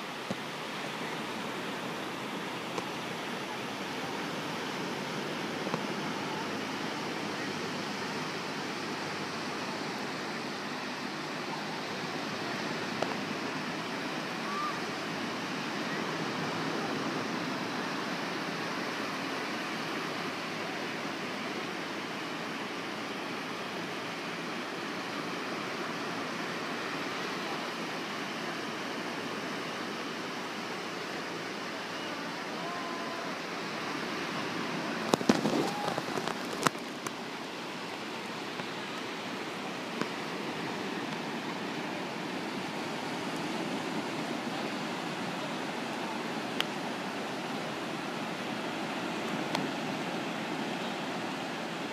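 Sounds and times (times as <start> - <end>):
surf breaking on beach: 0.0 - 51.9.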